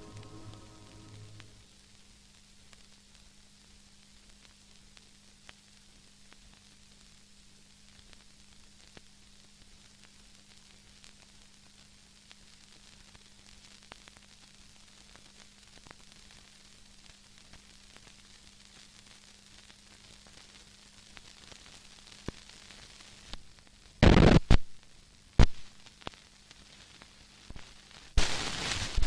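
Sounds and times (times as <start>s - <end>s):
crackling noise and pops: 0.0s - 29.0s
film soundtrack hiss and hum: 0.0s - 29.0s.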